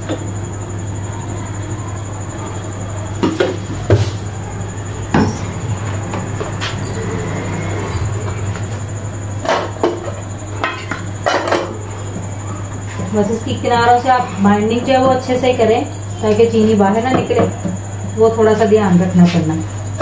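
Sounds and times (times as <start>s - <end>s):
low kitchen hum: 0.0s - 20.0s.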